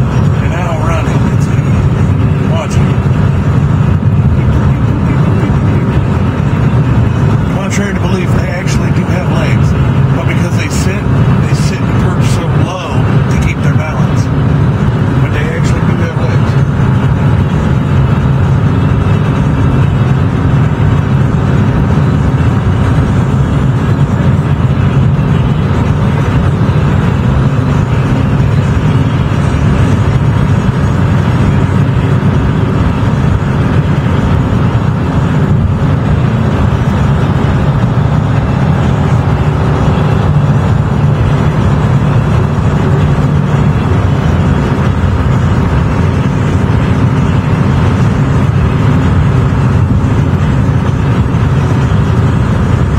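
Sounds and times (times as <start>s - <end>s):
car road and engine drone: 0.0s - 52.9s.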